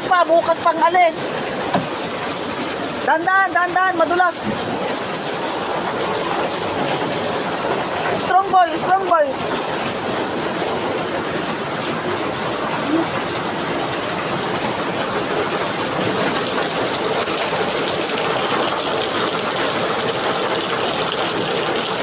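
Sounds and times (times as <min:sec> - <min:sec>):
heavy rain pouring: 0:00.0 - 0:22.0
water gushing: 0:00.0 - 0:22.0.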